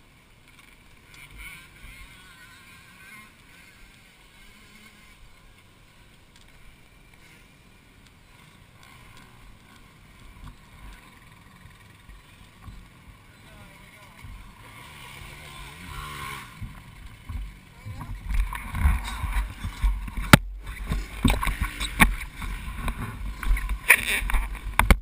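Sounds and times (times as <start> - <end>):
distant dirt bike engines: 0.0 - 25.0.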